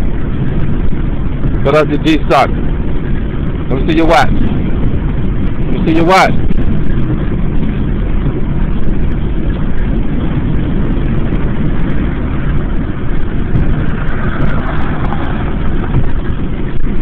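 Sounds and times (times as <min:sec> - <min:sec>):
car interior road and engine noise: 0:00.0 - 0:17.0.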